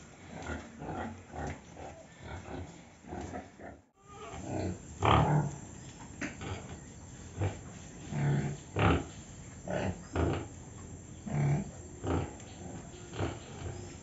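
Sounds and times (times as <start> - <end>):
pigs grunting: 0.0 - 5.6, 6.2 - 10.6, 11.2 - 14.0.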